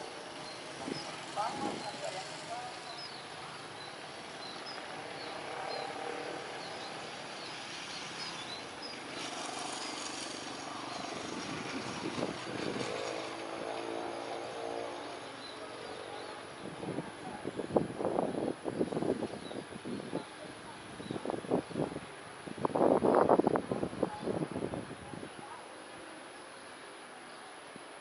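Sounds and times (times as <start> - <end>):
motorcycles passing: 0.0 - 27.1.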